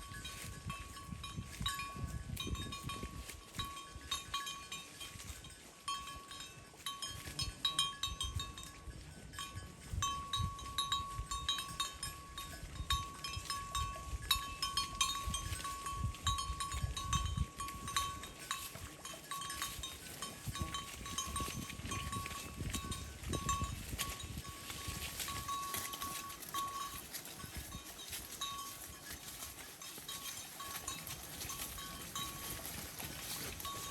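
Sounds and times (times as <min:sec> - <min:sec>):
cowbells clanking: 0:00.0 - 0:33.9.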